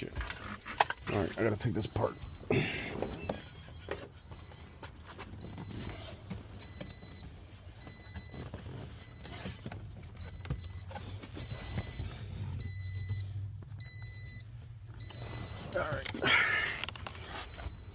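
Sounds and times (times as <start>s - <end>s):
car warning chime beeping: 0.0s - 17.9s.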